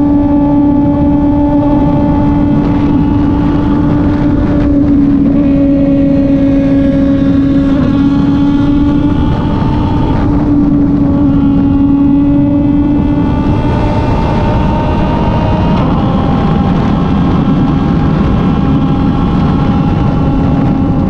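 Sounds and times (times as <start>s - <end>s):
motorcycle engine cruising: 0.0s - 21.0s
wind noise: 0.0s - 21.0s.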